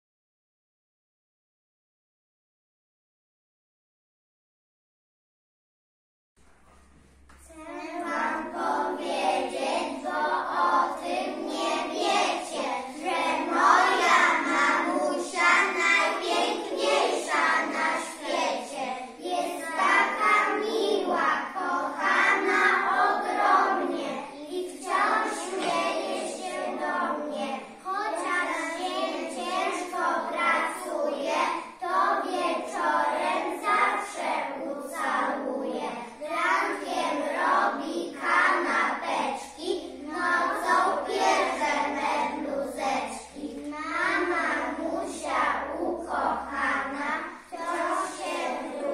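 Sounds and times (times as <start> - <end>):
children singing in unison: 7.6 - 48.9.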